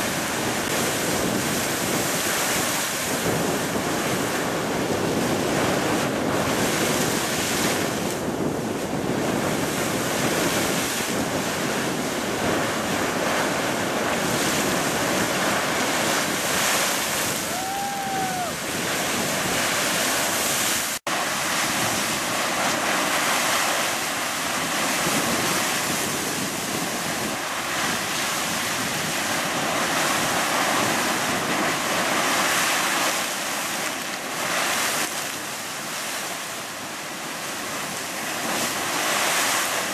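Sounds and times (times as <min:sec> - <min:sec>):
geyser water and steam rushing: 0:00.0 - 0:39.9
wind on microphone: 0:00.0 - 0:39.9.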